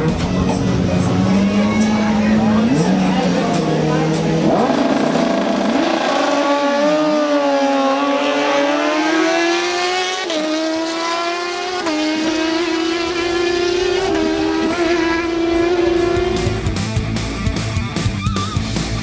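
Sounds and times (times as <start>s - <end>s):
superbike engines accelerating: 0.0s - 19.0s.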